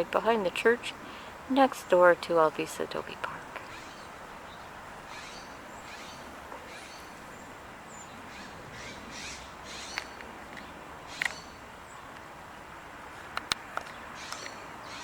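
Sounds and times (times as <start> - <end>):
birds chirping: 0.0 - 12.8, 13.6 - 15.0
steady background hiss: 0.0 - 15.0.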